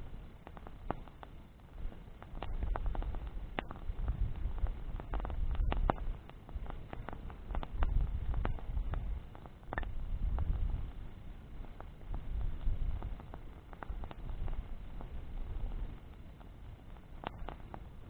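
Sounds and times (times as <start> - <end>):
bonfire crackling: 0.0 - 18.0
low fire rumble: 0.0 - 18.0
sharp pops and snaps: 0.0 - 18.0.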